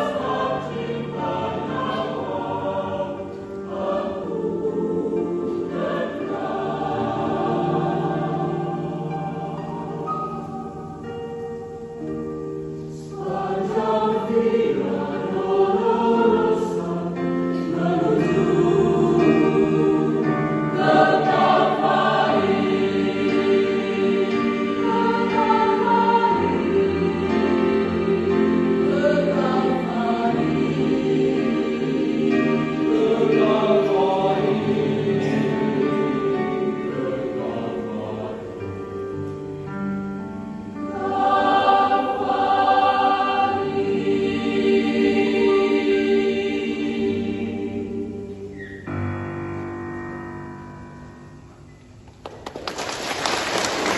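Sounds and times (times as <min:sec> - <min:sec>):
church choir singing: 0:00.0 - 0:49.8, 0:50.8 - 0:53.9.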